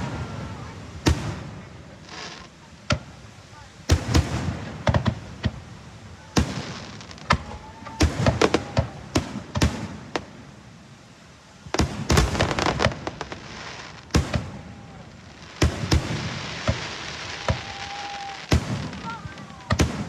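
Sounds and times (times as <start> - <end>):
fireworks bangs and cracks: 0.0 - 10.6, 11.6 - 20.0.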